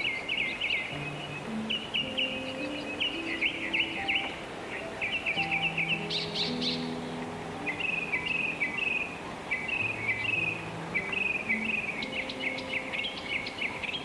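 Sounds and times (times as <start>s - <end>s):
small bird chirping in trills: 0.0s - 14.0s
soft background music: 0.0s - 14.0s.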